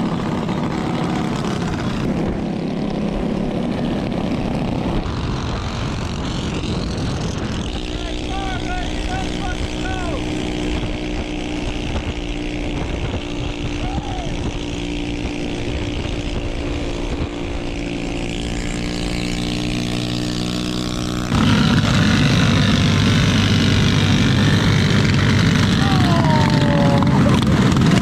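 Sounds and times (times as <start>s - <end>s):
small minibike engine running: 0.0s - 28.0s.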